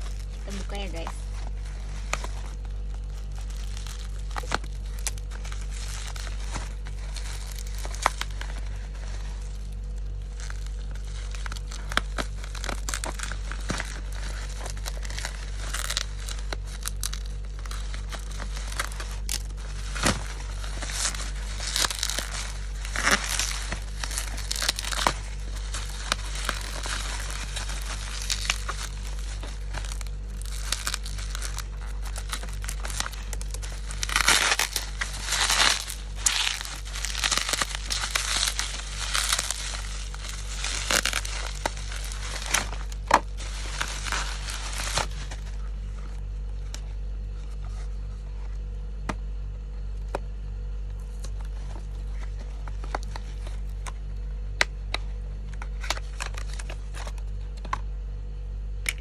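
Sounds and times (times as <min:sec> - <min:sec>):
packaging crinkling and tearing: 0:00.0 - 0:48.3, 0:50.9 - 0:57.8, 0:58.8 - 0:59.0
low hum: 0:00.0 - 0:59.0.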